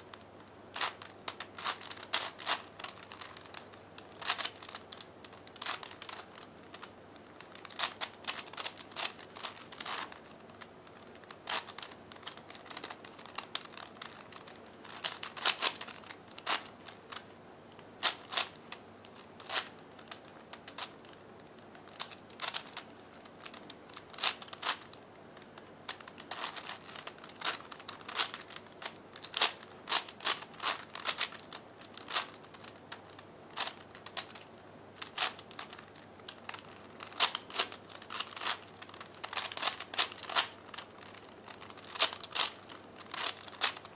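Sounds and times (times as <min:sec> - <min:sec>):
puzzle cube clicking: 0:00.1 - 0:17.2, 0:17.8 - 0:43.9.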